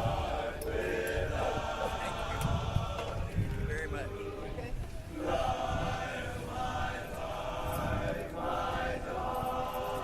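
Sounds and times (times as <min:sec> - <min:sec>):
a cappella choir singing: 0:00.0 - 0:03.4, 0:05.1 - 0:10.0.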